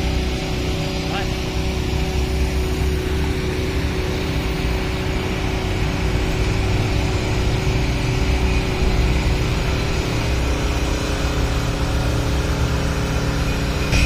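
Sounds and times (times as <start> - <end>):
motor humming steadily: 0.0 - 14.0.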